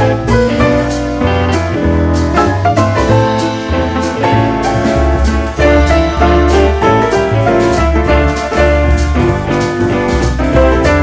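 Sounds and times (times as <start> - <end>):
upbeat piano music with drums: 0.0 - 11.0.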